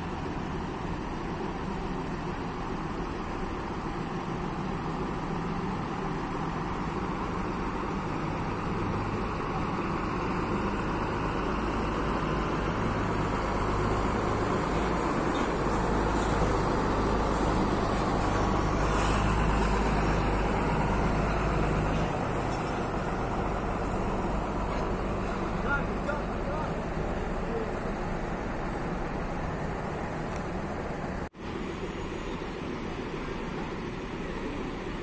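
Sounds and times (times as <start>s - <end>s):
coach diesel engine approaching: 0.0s - 35.0s.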